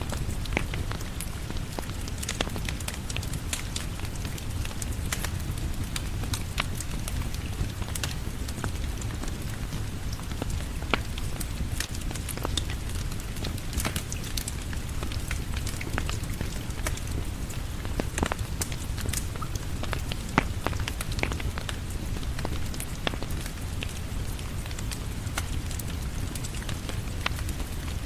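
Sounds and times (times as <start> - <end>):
steady rain: 0.0 - 28.0
wood fire crackling and popping: 0.0 - 28.0.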